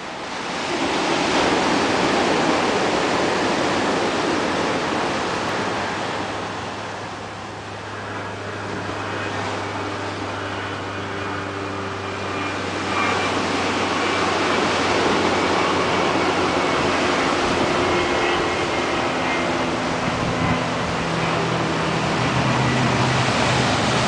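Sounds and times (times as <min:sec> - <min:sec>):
ocean surf breaking on shore: 0:00.0 - 0:24.0
steady low hum: 0:00.0 - 0:24.0.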